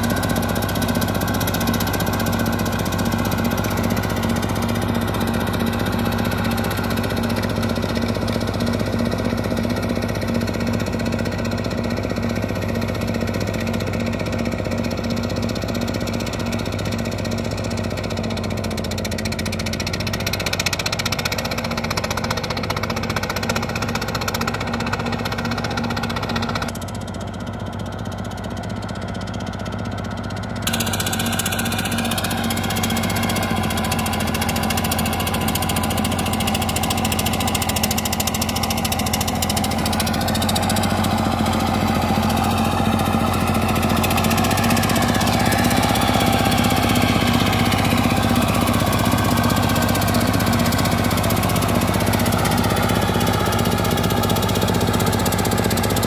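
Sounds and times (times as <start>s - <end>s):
diesel engine clattering: 0.0s - 56.0s.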